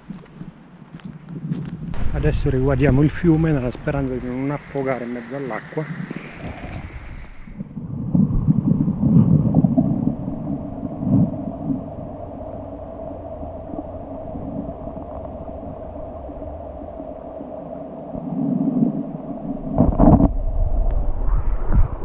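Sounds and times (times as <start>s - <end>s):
muffled underwater stream rumble: 2.0s - 22.0s.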